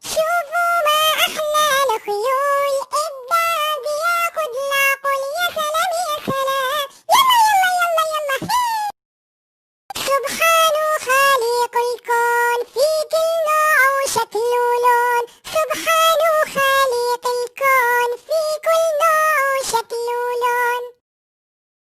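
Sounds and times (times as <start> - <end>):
high-pitched voice singing: 0.0 - 9.0, 9.9 - 21.0.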